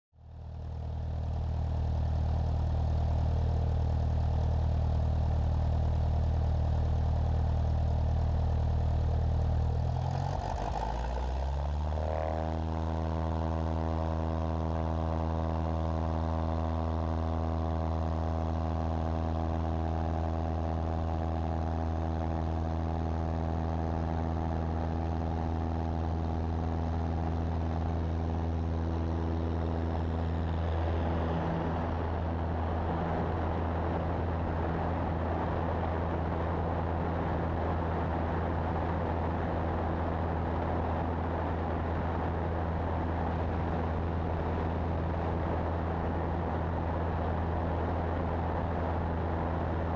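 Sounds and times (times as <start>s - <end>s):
airplane engine and propeller: 0.2s - 49.9s.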